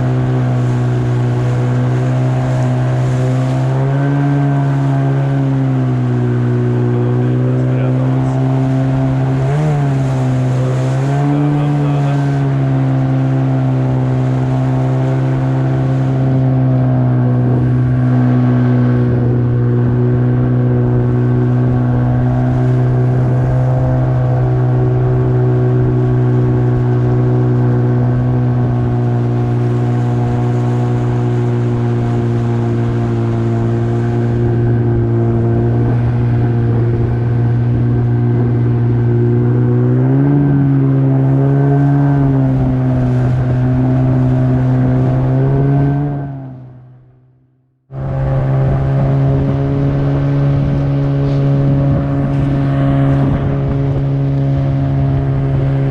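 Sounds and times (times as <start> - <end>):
outboard engine running: 0.0 - 55.9.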